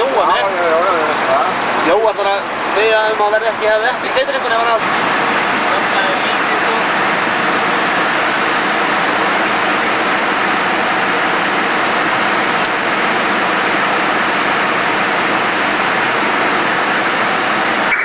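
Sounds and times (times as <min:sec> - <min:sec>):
airflow and engine noise in flight: 0:00.0 - 0:18.0.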